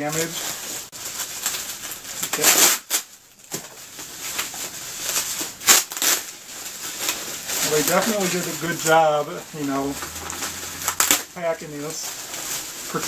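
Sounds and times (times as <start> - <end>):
bubble wrap and packing peanuts crinkling: 0.0 - 13.0.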